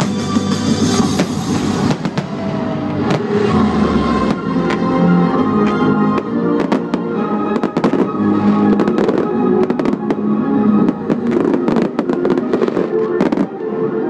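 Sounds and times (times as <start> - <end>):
fireworks bursting and crackling: 0.0 - 13.7
music: 0.0 - 14.0.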